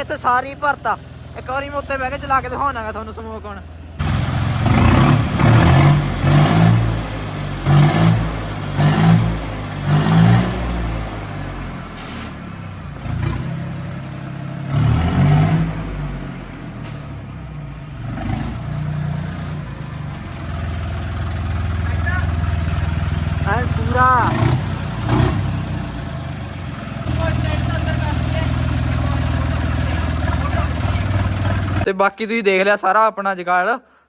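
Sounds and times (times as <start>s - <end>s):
diesel engine revving: 0.0s - 31.9s.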